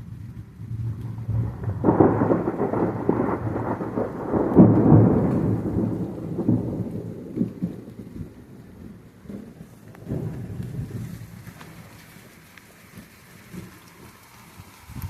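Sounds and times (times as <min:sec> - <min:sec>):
thunder rumbling and crackling: 0:00.0 - 0:15.0.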